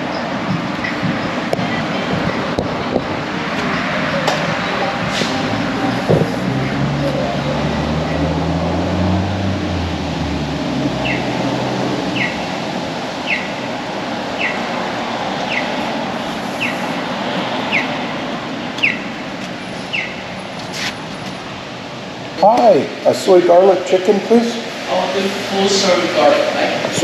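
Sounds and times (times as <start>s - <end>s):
vehicle engine passing: 0.0s - 22.4s.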